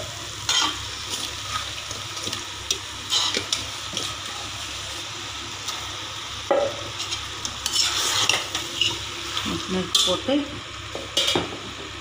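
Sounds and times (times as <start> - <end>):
meat sizzling in masala: 0.0 - 12.0.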